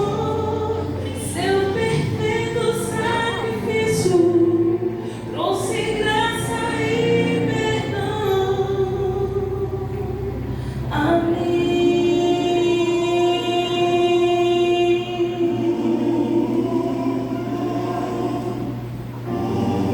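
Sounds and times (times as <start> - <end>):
gospel singing voices: 0.0 - 19.9.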